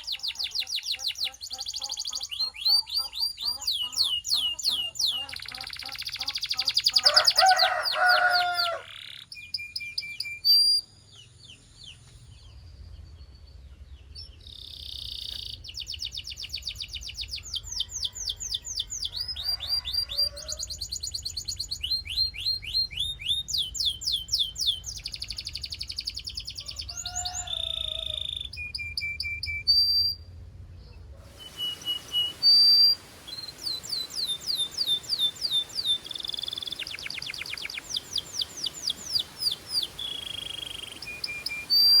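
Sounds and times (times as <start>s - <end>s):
canaries trilling: 0.0s - 9.4s, 14.3s - 28.6s, 31.2s - 42.0s.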